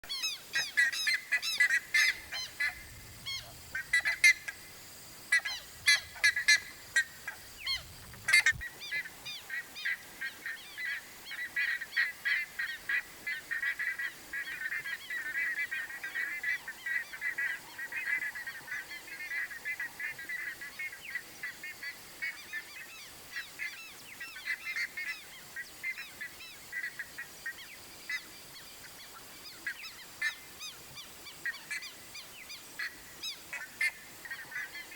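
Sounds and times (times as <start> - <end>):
ibis calling: 0.0 - 34.9.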